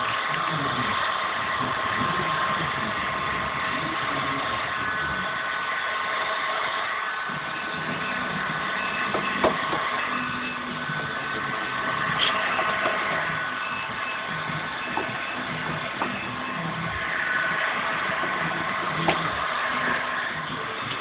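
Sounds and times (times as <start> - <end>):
fan motor whine: 0.0 - 21.0
heat gun blowing hot air: 0.0 - 21.0.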